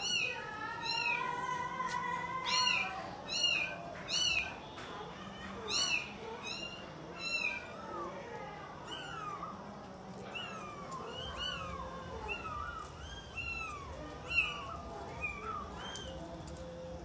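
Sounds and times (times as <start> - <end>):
kittens mewing: 0.0 - 1.6, 2.4 - 4.6, 5.2 - 16.2.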